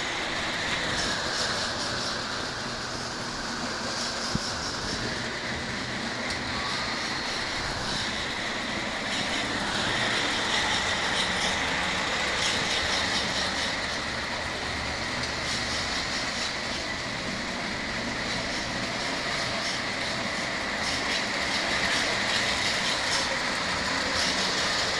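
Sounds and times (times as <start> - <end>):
model train rolling on track: 0.0 - 24.9.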